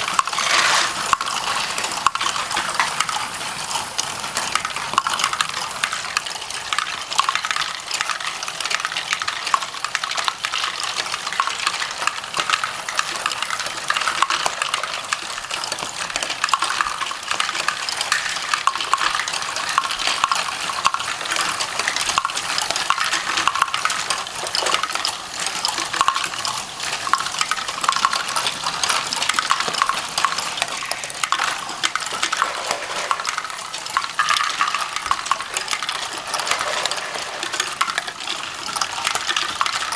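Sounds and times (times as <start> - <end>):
plastic bricks clattering: 0.0 - 39.9.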